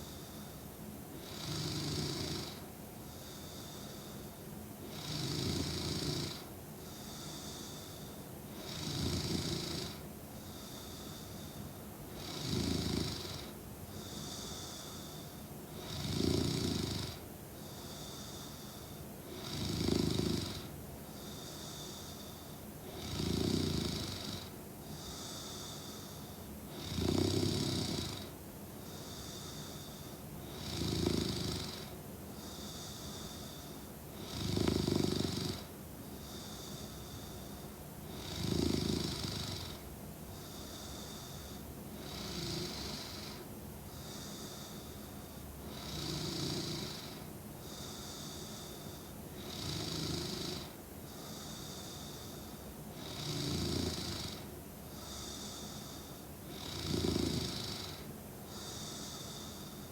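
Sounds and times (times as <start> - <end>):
soft breathing: 0.0 - 1.0, 2.5 - 4.9, 6.3 - 8.7, 9.8 - 12.5, 13.2 - 16.0, 17.1 - 19.5, 20.5 - 23.0, 24.0 - 26.9, 28.1 - 30.7, 31.6 - 38.5, 39.1 - 59.9
woman snoring: 1.2 - 2.6, 4.8 - 7.9, 8.5 - 11.3, 12.1 - 17.2, 17.8 - 45.0, 45.6 - 59.9.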